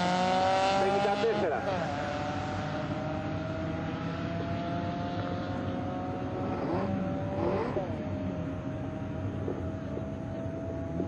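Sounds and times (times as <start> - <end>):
distant drag racing engines: 0.0 - 11.0.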